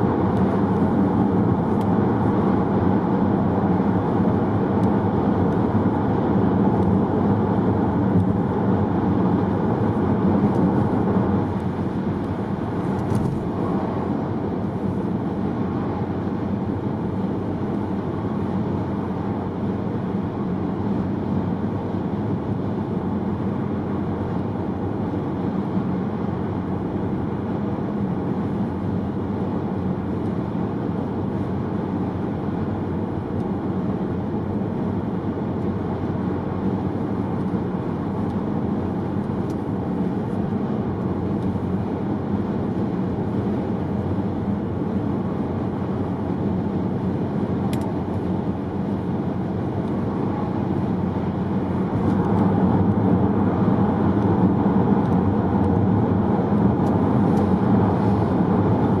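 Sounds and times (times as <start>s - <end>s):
car engine hum: 0.0s - 59.0s
road and tyre noise: 0.0s - 59.0s.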